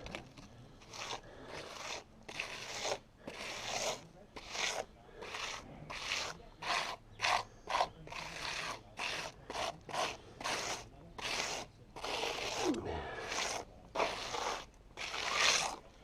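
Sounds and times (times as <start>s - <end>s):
hand tool scraping concrete: 0.0s - 16.0s.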